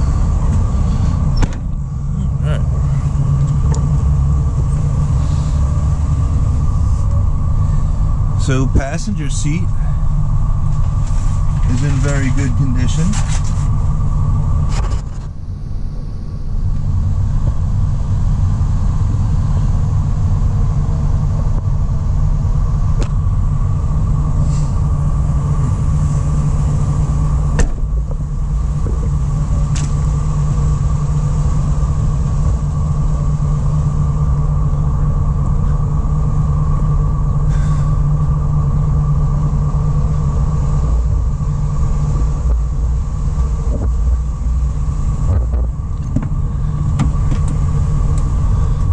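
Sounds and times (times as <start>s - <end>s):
van engine idling: 0.0s - 48.9s.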